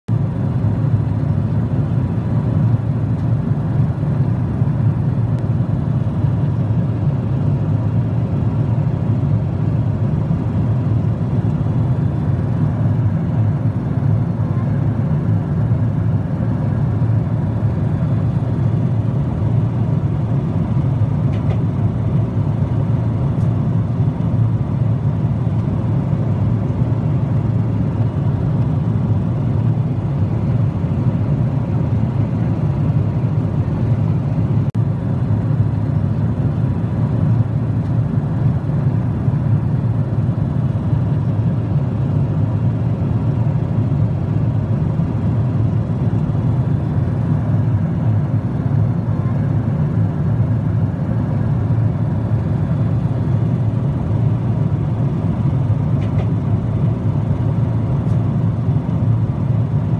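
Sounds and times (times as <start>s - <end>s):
jet airliner cabin rumble: 0.1s - 59.9s.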